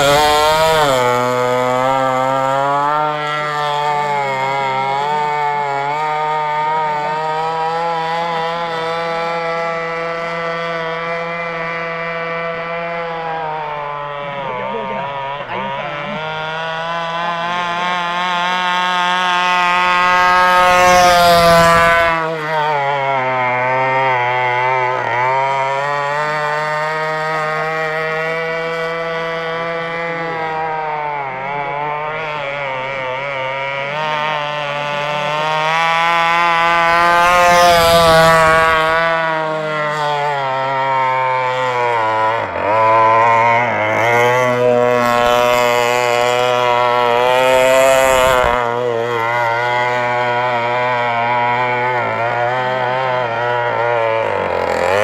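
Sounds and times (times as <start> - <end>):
model boat engine droning: 0.0 - 55.0.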